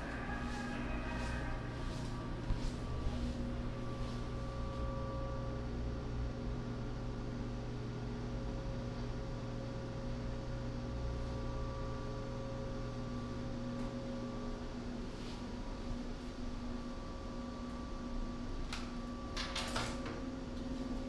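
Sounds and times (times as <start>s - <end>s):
steady hum of held tones: 0.0s - 21.0s.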